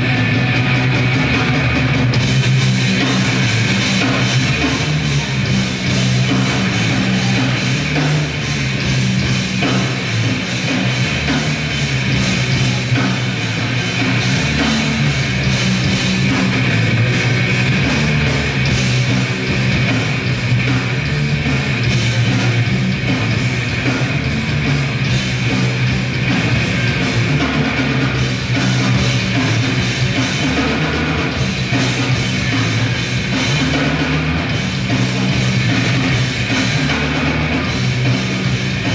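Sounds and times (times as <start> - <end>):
bass guitar: 0.0 - 38.9
distorted electric guitars: 0.0 - 38.9
fast dense drumming: 0.0 - 38.9.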